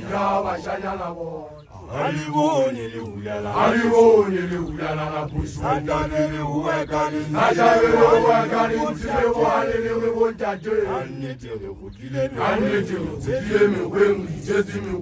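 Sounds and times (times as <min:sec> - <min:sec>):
men chanting: 0:00.0 - 0:15.0.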